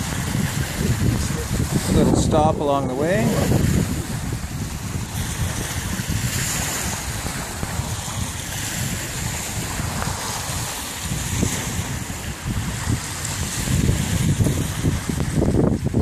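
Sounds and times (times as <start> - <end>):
small waves on sandy shore: 0.0 - 16.0
wind buffeting microphone: 0.0 - 16.0.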